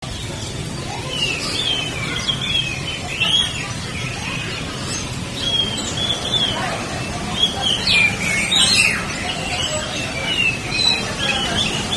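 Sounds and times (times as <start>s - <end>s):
songbirds chirping: 0.0s - 11.9s.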